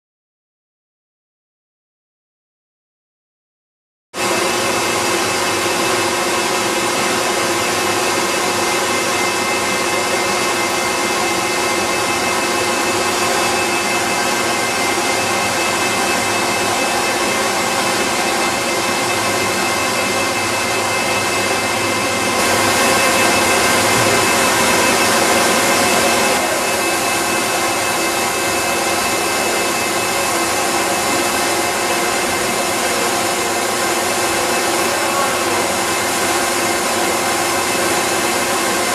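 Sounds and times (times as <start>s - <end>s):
motors and mixers running: 4.2s - 38.9s
steady hum tones: 4.4s - 36.5s.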